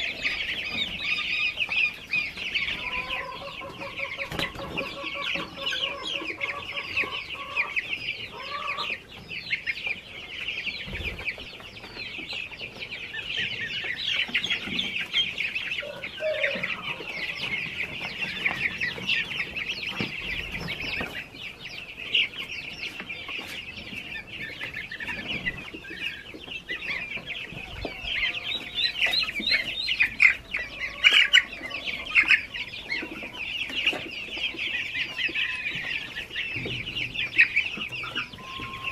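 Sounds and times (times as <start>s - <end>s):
chicks and goslings peeping: 0.0s - 38.9s.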